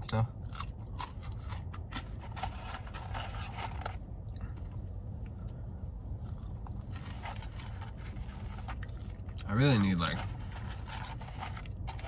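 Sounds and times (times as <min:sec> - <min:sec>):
man chewing crunchy fries: 0:00.0 - 0:12.0
steady low hum: 0:00.0 - 0:12.0.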